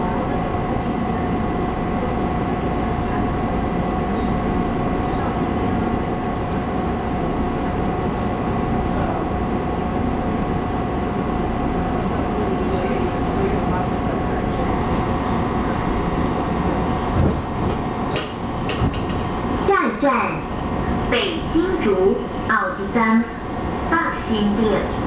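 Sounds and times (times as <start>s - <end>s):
train rumbling inside carriage: 0.0s - 25.0s.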